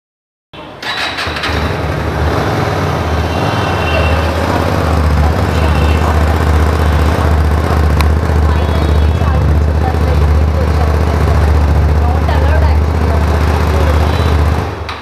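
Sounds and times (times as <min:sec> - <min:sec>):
motorcycle engine starting: 0:00.8 - 0:15.0
motorcycle engine idling: 0:00.9 - 0:15.0.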